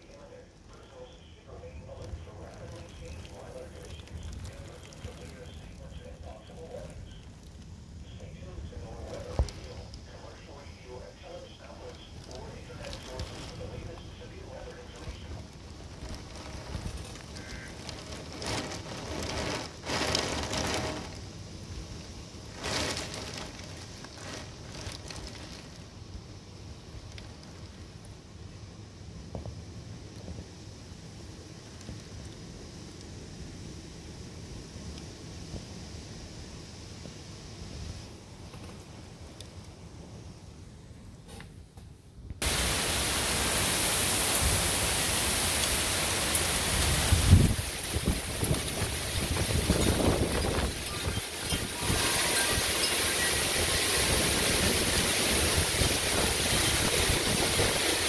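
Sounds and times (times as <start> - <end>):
heavy wind-driven rain: 0.0 - 41.2, 42.1 - 58.0.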